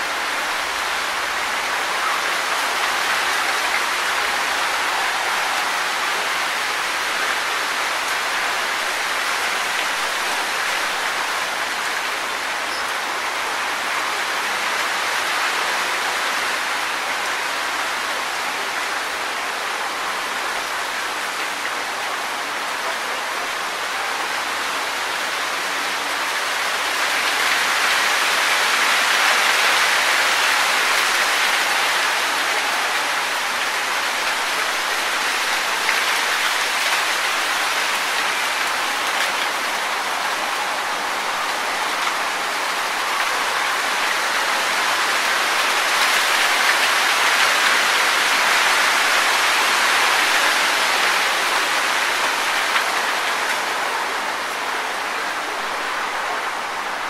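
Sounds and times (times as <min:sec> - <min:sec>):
wind rustling tree leaves: 0:00.0 - 0:57.0.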